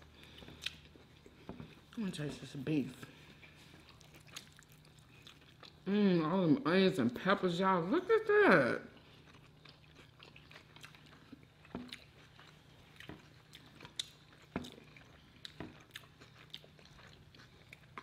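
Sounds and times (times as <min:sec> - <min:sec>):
biting and chewing food: 0:00.0 - 0:05.9, 0:09.0 - 0:18.0.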